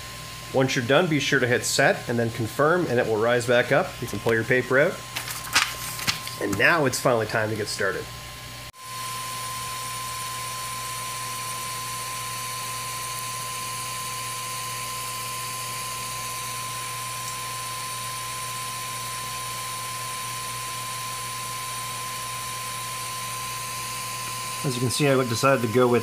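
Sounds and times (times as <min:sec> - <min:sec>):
cooling fan whirring: 0:00.0 - 0:26.0.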